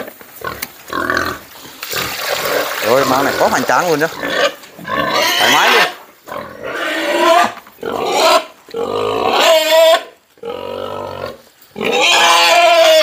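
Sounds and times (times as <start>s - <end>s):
pigs squealing: 0.4s - 13.0s.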